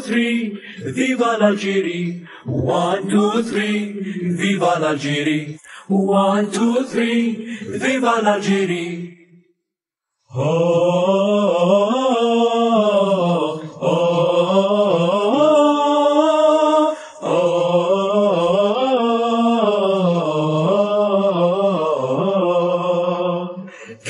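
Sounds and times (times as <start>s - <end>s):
wordless singing: 0.0s - 9.5s, 10.2s - 24.0s.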